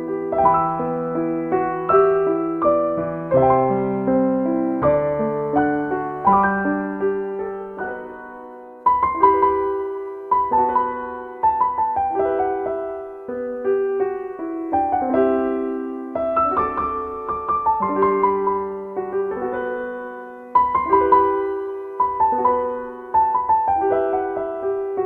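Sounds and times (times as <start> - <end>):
calm piano music: 0.0 - 25.0.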